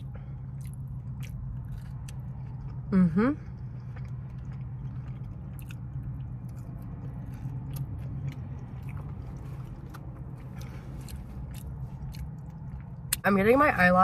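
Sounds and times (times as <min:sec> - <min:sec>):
person chewing crunchy food: 0:00.0 - 0:13.2
steady low hum: 0:00.0 - 0:14.0.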